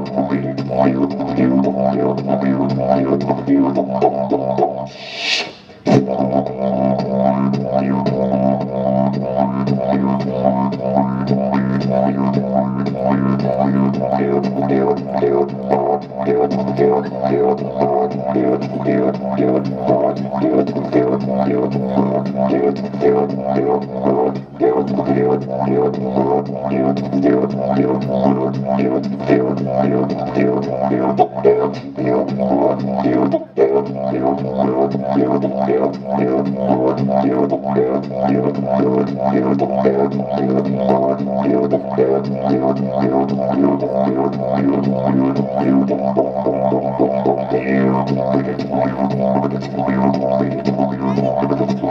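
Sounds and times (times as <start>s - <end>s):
didgeridoo drone: 0.0s - 51.9s.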